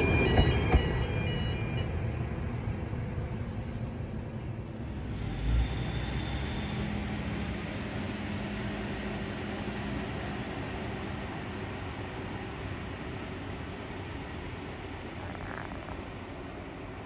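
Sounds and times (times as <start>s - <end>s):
diesel railcar engine humming: 0.0s - 17.0s.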